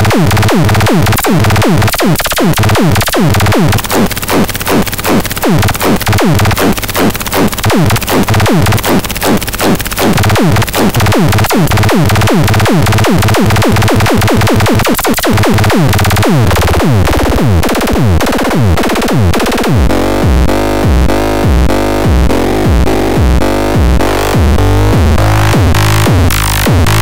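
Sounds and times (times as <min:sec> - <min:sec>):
drum machine beat: 0:00.0 - 0:27.0
pulsing bass pattern: 0:00.0 - 0:27.0.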